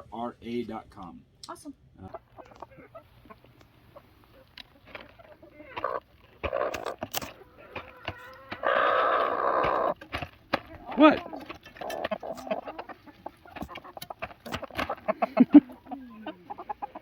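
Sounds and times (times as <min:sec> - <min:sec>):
chickens clucking: 0:02.0 - 0:17.0.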